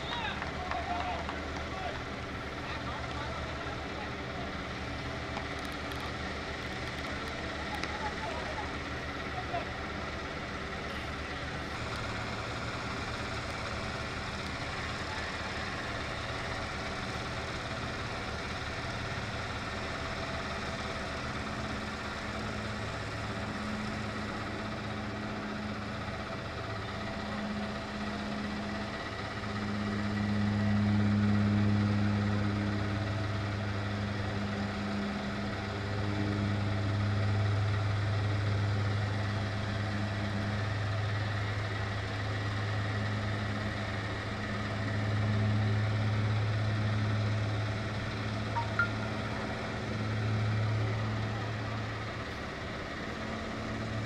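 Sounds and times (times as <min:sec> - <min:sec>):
roller engine idling: 0:00.0 - 0:54.0.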